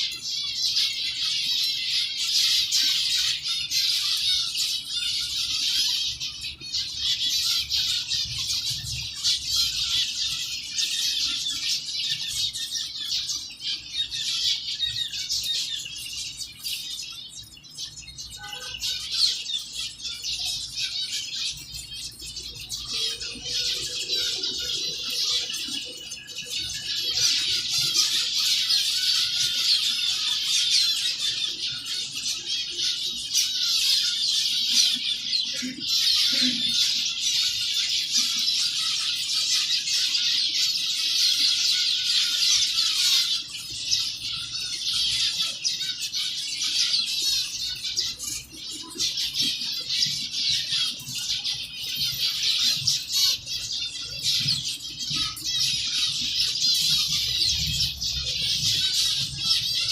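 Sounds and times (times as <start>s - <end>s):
finches calling: 0.0s - 59.9s.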